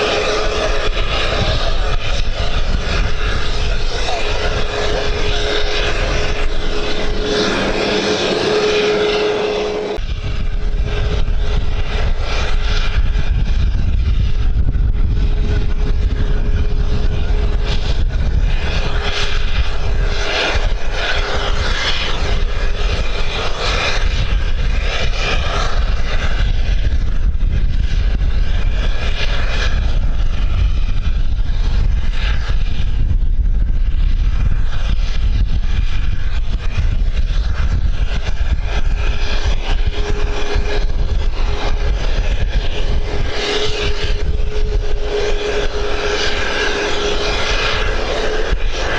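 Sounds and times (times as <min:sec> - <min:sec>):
airplane engine running: 0:00.0 - 0:48.9
wind rumble on microphone: 0:00.0 - 0:48.9.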